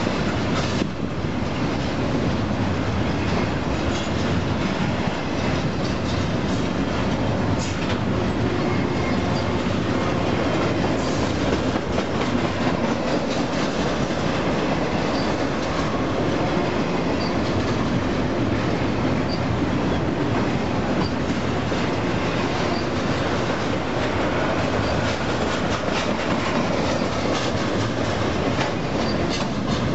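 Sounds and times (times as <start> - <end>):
steel wheels rumbling on rail: 0.0 - 29.9
train cars clanking: 0.0 - 29.9.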